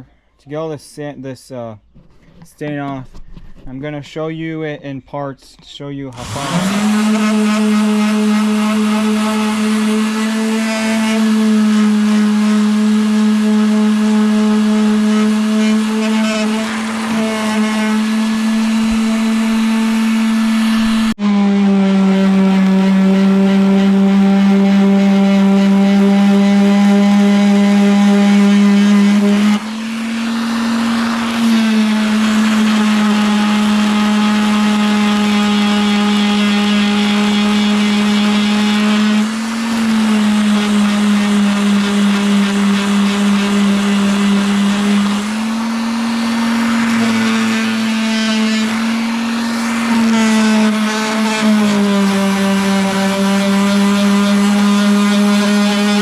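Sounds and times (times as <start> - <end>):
electric sander running on wood: 6.1 - 56.0.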